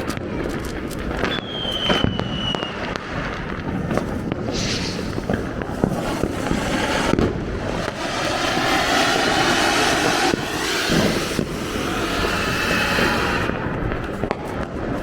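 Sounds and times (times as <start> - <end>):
firecracker cracks: 0.0 - 15.0
firework fountain hissing: 0.0 - 15.0.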